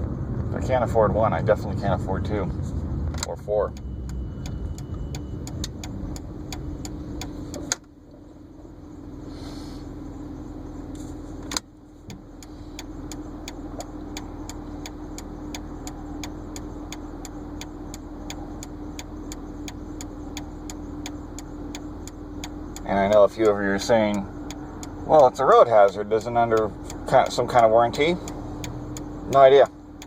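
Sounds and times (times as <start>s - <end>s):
engine and road hum: 0.0s - 30.0s
regular ticking: 3.1s - 9.3s, 9.9s - 30.0s.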